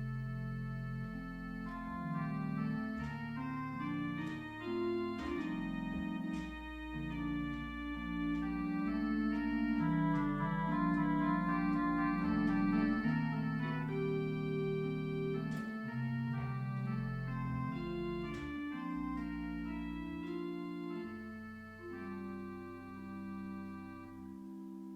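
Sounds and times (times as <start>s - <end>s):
organ chords: 0.0s - 24.9s.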